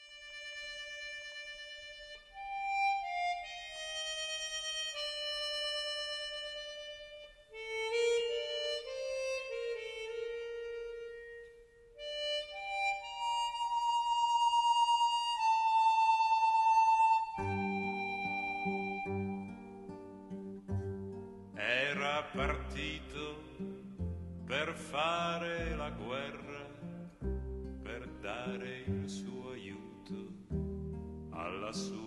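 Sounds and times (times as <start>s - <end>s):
slow wind instrument melody: 0.0s - 32.0s.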